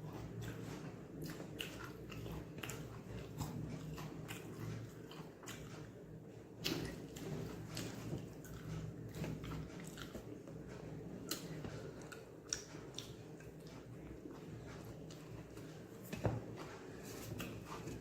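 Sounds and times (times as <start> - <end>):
low steady hum: 0.0 - 18.0
person chewing food: 0.0 - 18.0.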